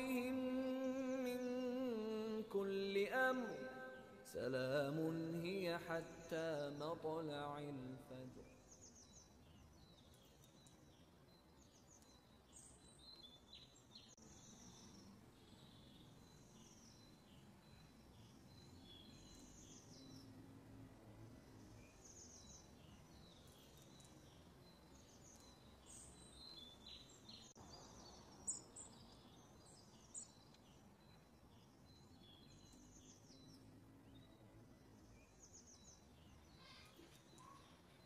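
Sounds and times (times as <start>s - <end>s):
faint birds chirping: 0.0s - 38.0s
low background hiss: 0.0s - 38.0s.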